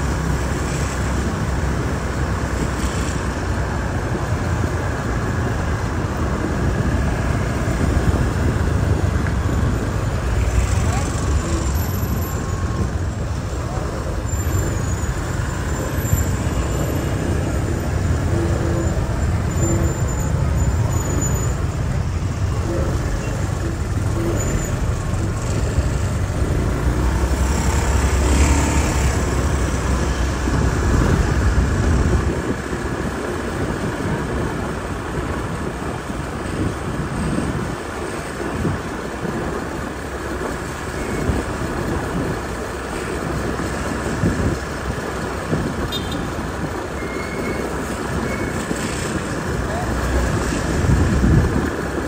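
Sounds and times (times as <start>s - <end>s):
passing vehicles: 0.0s - 52.0s.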